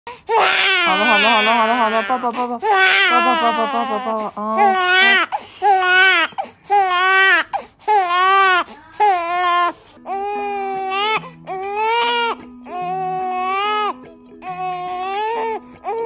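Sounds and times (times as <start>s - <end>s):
newborn babies crying: 0.1s - 16.0s.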